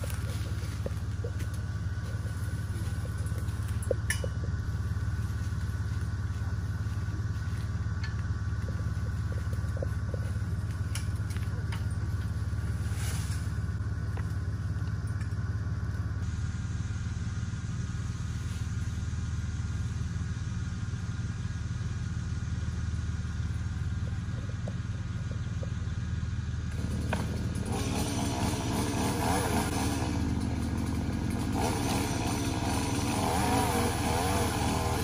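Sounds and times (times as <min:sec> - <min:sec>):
low engine hum: 0:00.0 - 0:35.0.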